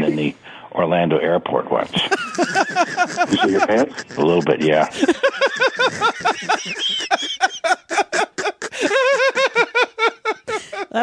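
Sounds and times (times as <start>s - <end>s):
people laughing: 2.0s - 11.0s.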